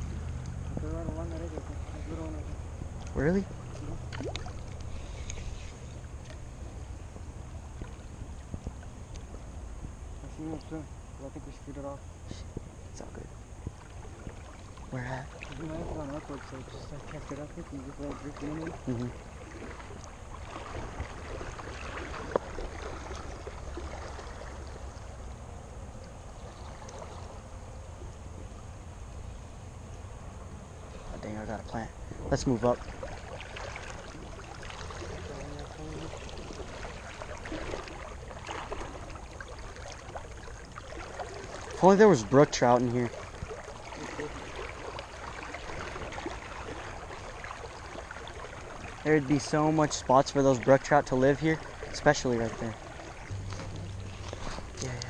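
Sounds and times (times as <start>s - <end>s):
river water rushing over shallows: 0.0s - 28.0s, 30.6s - 55.0s.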